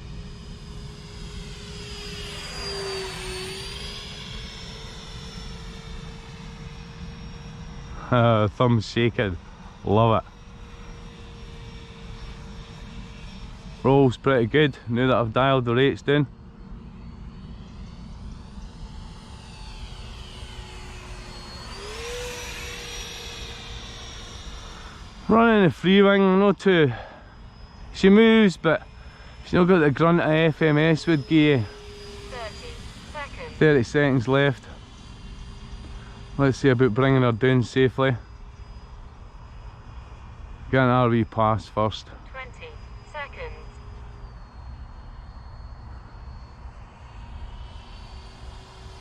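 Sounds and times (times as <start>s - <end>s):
electric ducted fan whining: 0.0s - 49.0s.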